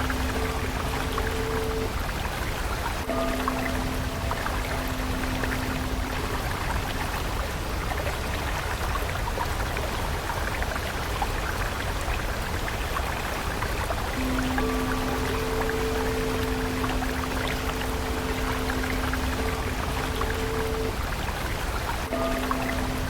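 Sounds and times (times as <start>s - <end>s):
soft held musical tone: 0.0s - 9.5s, 13.2s - 23.0s
water stream rushing: 0.0s - 23.0s.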